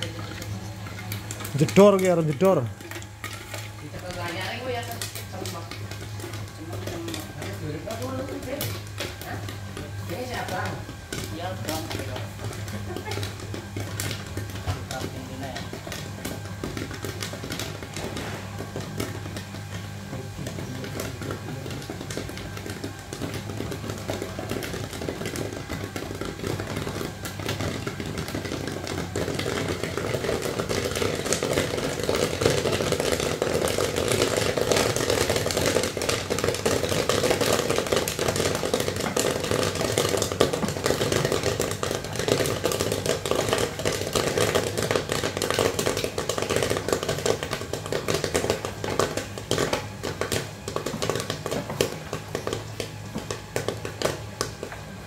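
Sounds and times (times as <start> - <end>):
machine low hum: 0.0 - 55.0
popcorn popping: 0.0 - 55.0.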